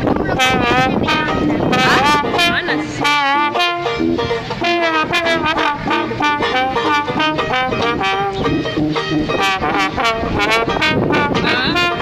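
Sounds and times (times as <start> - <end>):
banjo plucked chords: 0.0 - 12.0
trombone: 0.0 - 12.0
tuba bass: 0.0 - 12.0.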